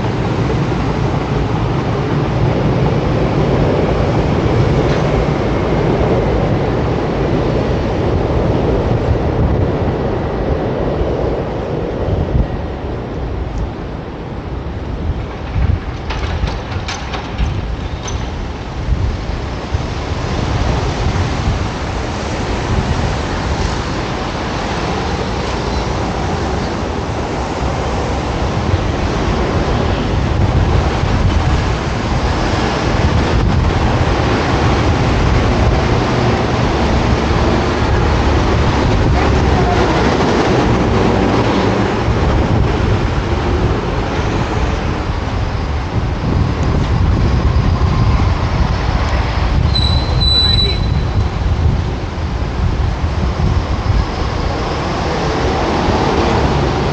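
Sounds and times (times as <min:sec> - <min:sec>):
city road traffic: 0:00.0 - 0:56.9
wind buffeting microphone: 0:00.0 - 0:56.9.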